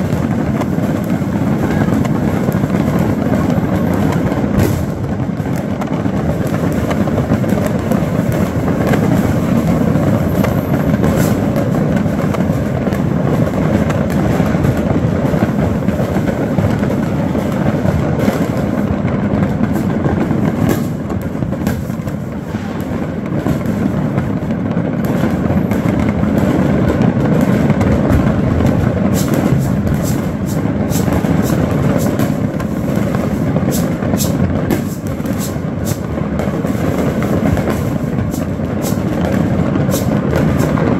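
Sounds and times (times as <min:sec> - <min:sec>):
firecrackers crackling: 0:00.0 - 0:40.9
sharp firework pops: 0:00.0 - 0:40.9.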